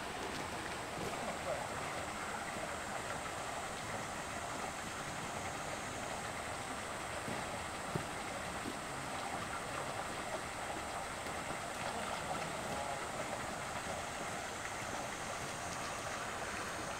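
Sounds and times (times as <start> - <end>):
water pouring from pipe: 0.0 - 16.9.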